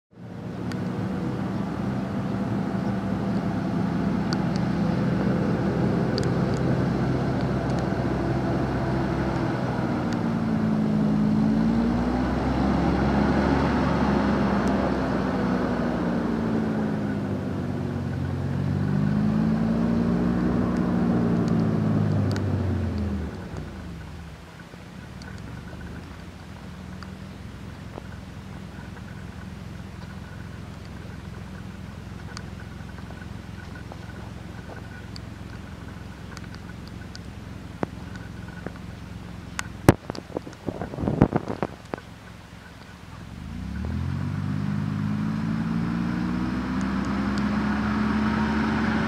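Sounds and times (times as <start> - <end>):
hovercraft engine drone: 0.1 - 49.0.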